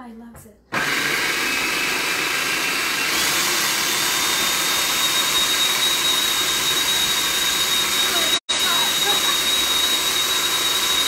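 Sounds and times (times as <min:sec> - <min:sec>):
food processor motor whining: 0:00.7 - 0:11.0.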